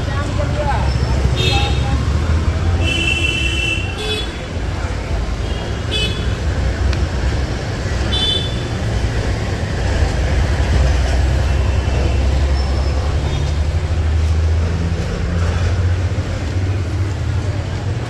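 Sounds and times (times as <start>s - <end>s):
city street traffic: 0.0s - 18.0s
vehicle engine rumble: 0.0s - 18.0s.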